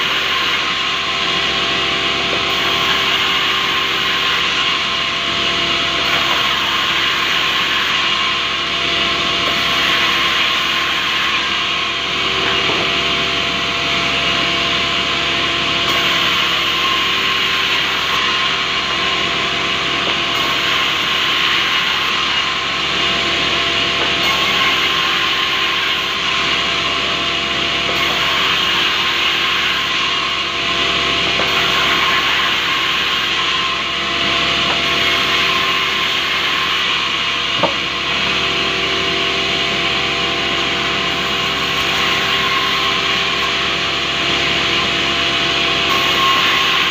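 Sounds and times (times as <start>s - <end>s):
band saw blade cutting wood: 0.0s - 8.4s, 9.3s - 11.7s, 15.8s - 39.1s, 39.7s - 46.9s
machine humming: 0.0s - 46.9s.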